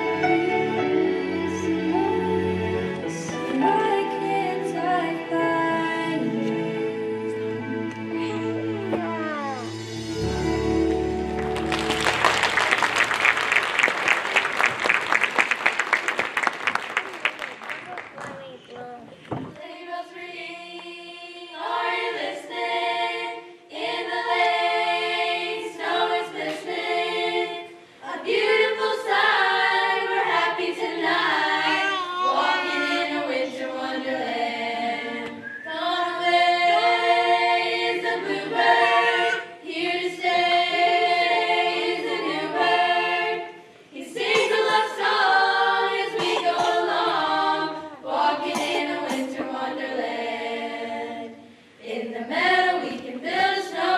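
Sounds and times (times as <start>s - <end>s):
choir singing a cappella: 0.0s - 9.0s, 19.5s - 53.9s.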